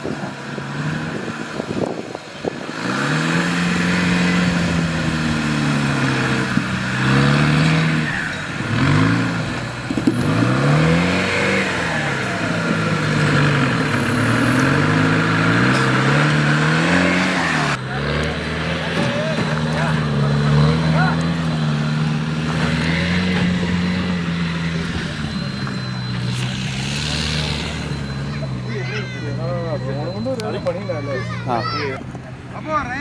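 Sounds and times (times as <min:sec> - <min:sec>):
jeep engine revving under load: 0:00.0 - 0:32.6.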